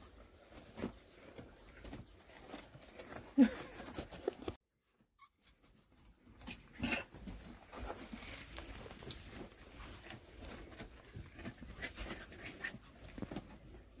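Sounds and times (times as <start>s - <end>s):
animals shuffling on straw: 0.0s - 4.5s, 5.6s - 14.0s.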